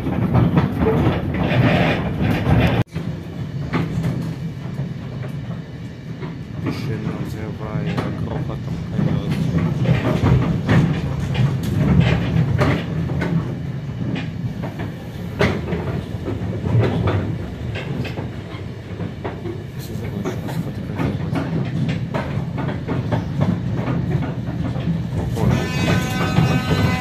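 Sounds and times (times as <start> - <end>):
train wheels rumbling on track: 0.0 - 27.0
wheels clattering over rail joints: 0.0 - 27.0.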